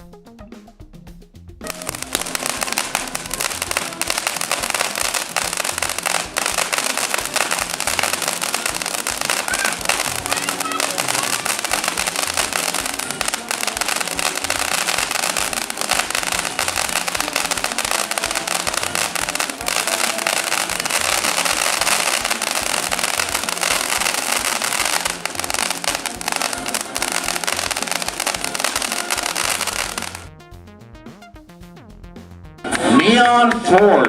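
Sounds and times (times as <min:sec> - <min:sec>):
music with a beat: 0:00.0 - 0:34.0
firework hissing and crackling: 0:01.6 - 0:30.3.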